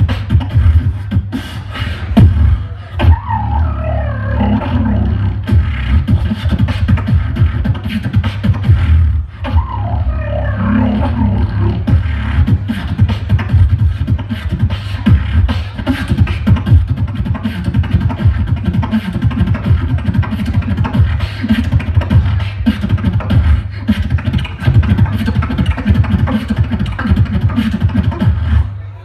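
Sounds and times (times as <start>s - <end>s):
beatboxing through speakers: 0.0s - 29.0s.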